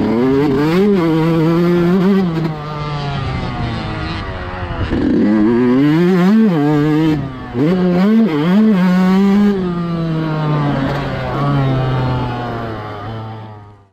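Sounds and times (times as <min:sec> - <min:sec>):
motocross engine revving: 0:00.0 - 0:13.9.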